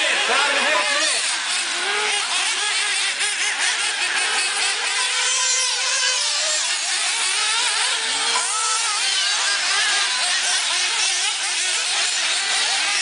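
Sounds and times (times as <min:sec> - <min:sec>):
small engines revving high-pitched: 0:00.0 - 0:13.0.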